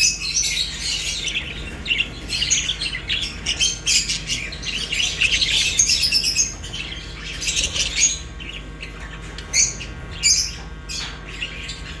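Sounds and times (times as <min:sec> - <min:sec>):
birds chirping and squawking: 0:00.0 - 0:12.0.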